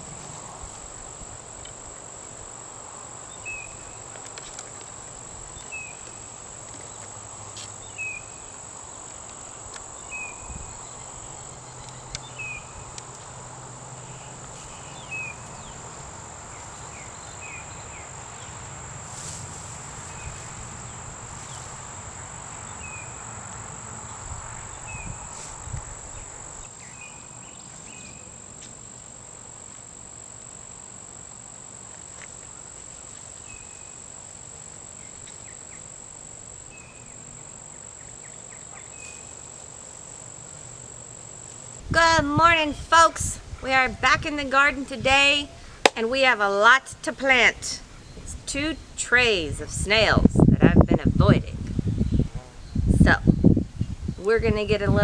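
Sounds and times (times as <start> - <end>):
short insect chirp: 0.0 - 46.3, 51.6 - 54.3
high-pitched insect trill: 0.0 - 55.0.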